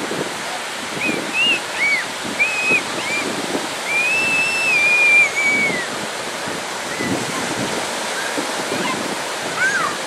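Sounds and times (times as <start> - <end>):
ocean surf breaking: 0.0 - 10.0.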